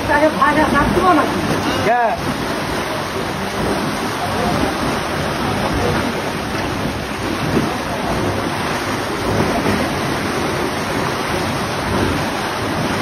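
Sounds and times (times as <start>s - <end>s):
floodwater rushing through sluice: 0.0s - 13.0s.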